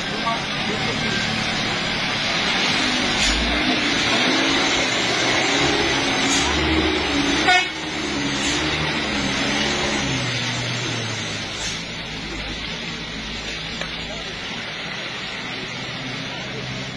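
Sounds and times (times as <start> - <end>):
loud truck rattle: 0.0 - 16.9
truck engine and tyres on wet road: 0.0 - 16.9.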